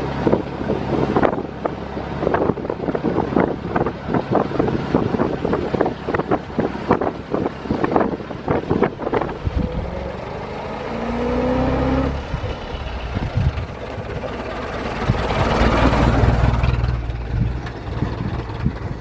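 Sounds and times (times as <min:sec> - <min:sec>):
old car engine running: 0:00.0 - 0:19.0.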